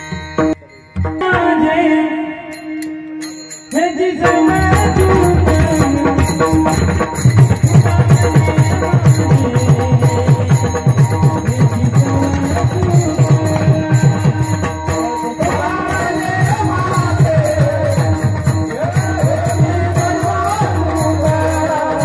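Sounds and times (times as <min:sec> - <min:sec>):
jingling hand cymbals: 0:02.5 - 0:22.0
rhythmic drum strokes: 0:02.5 - 0:22.0.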